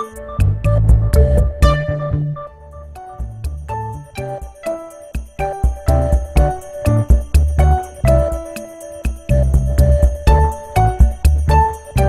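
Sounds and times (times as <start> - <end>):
light bell-like music with beat: 0.0 - 12.0.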